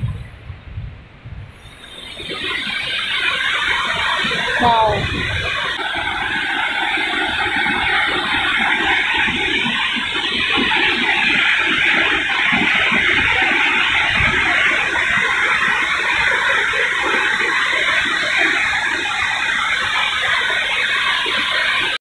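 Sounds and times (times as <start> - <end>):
waterfall rushing hiss: 1.6 - 22.0.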